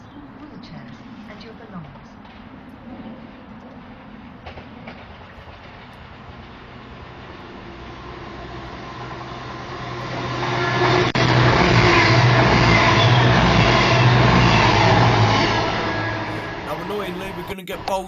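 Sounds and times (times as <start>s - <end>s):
diesel engine hum: 0.0s - 18.0s
train rail noise: 0.0s - 18.0s.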